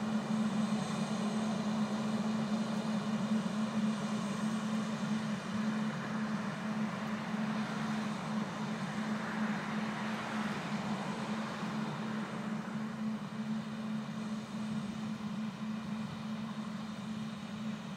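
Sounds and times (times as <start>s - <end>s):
tractor engine and blower drone: 0.0s - 17.9s.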